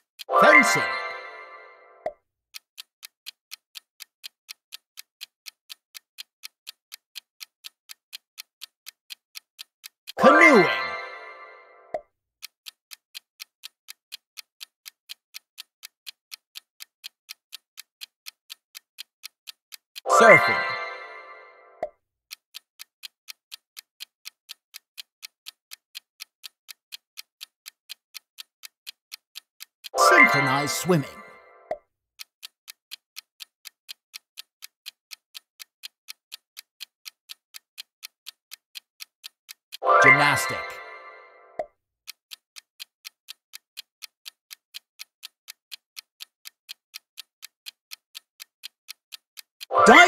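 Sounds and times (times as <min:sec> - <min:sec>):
countdown timer ticking: 0:00.0 - 0:02.2, 0:02.8 - 0:22.0, 0:22.8 - 0:31.8, 0:32.7 - 0:50.0.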